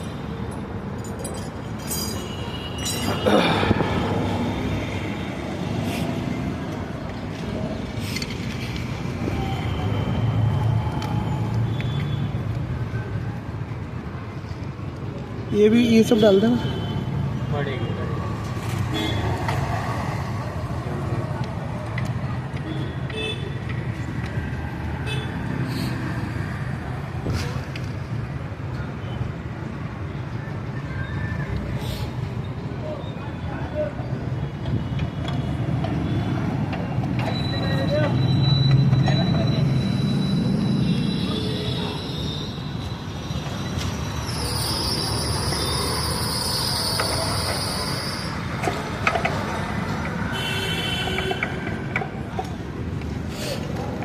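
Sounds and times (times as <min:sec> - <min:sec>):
motor vehicles rumbling: 0:00.0 - 0:54.0.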